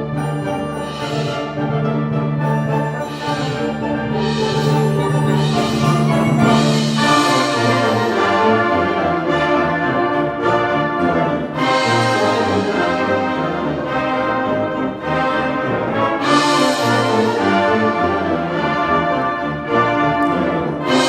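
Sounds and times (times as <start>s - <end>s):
wind band playing chords: 0.0s - 21.0s.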